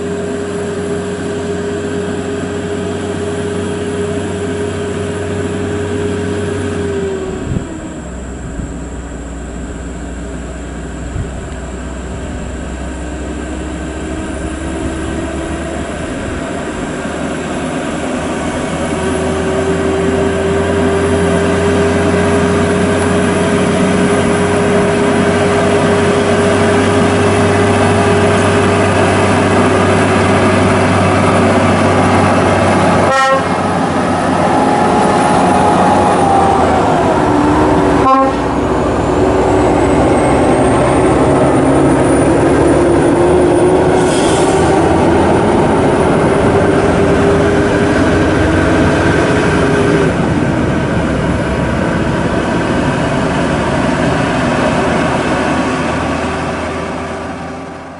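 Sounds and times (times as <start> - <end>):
heavy diesel trucks driving past: 0.0 - 57.9
held steady tone: 0.0 - 57.9.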